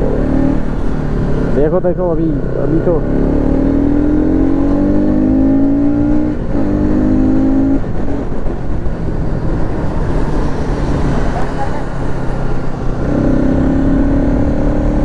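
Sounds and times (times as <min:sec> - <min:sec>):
motorcycle engine accelerating: 0:00.0 - 0:15.0
wind and road noise: 0:00.0 - 0:15.0.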